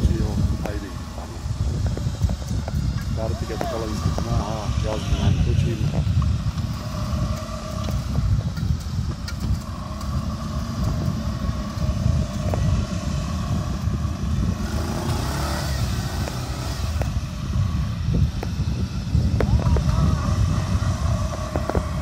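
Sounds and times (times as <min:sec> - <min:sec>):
heavy low rumble: 0:00.0 - 0:22.0
quad bike engines running: 0:00.0 - 0:22.0.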